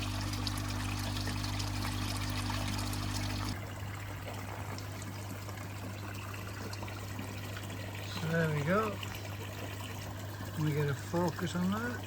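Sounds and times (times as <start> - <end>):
low steady hum: 0.0 - 12.0
water trickling into a pond: 0.0 - 12.0.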